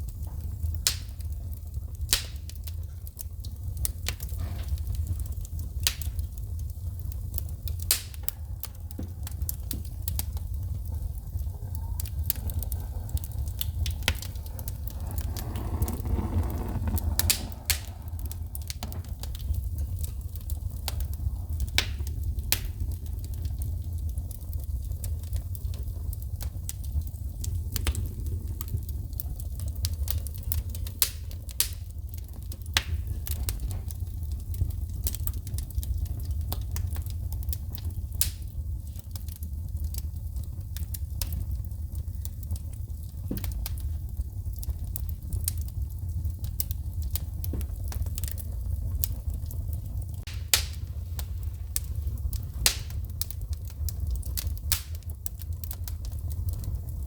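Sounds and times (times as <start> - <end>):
low fire rumble: 0.0 - 57.0
wood fire crackling: 0.0 - 57.0
sparks popping and snapping: 3.7 - 57.0.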